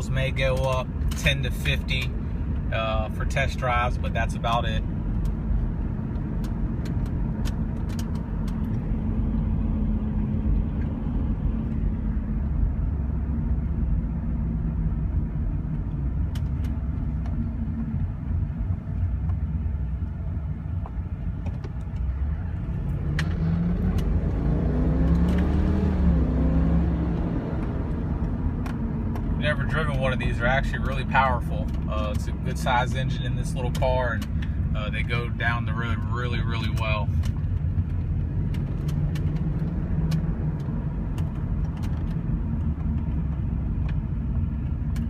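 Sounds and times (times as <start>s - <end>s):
car engine accelerating: 0.0s - 45.0s
road rumble inside car: 0.0s - 45.0s.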